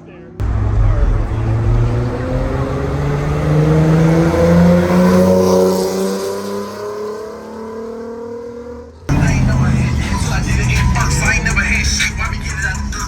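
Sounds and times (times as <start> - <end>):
car engine accelerating hard: 0.4 - 13.0.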